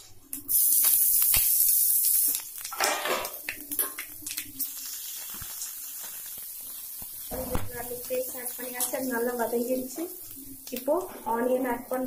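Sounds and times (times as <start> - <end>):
paste sizzling in hot oil: 0.4 - 12.0.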